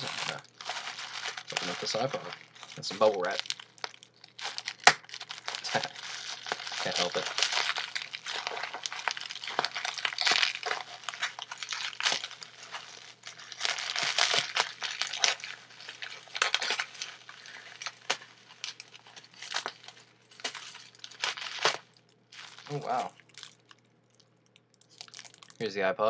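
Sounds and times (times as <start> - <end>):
bubble wrap crinkling: 0.0 - 25.7.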